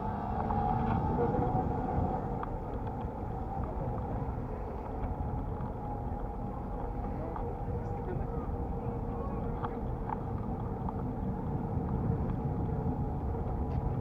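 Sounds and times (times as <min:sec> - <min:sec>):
faint steady whine: 0:00.0 - 0:14.0
wind and road noise: 0:00.0 - 0:14.0.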